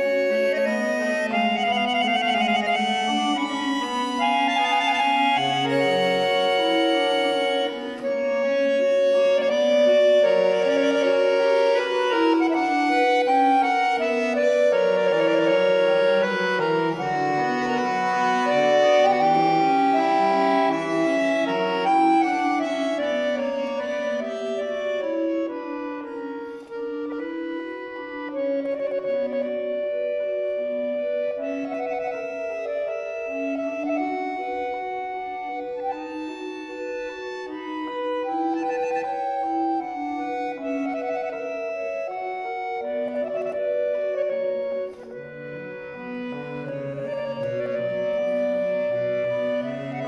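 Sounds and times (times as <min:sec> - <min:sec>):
button accordion playing: 0:00.0 - 0:29.8, 0:30.7 - 0:50.0.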